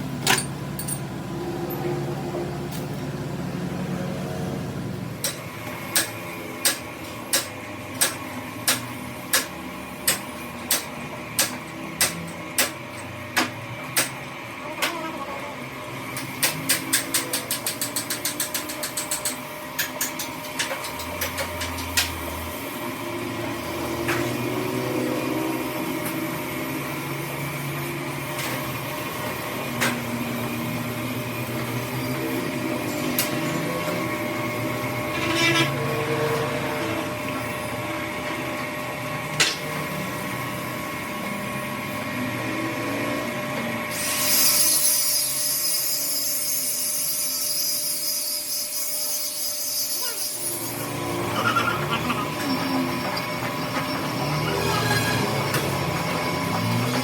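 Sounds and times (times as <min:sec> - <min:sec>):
workshop machinery humming: 0:00.0 - 0:57.0.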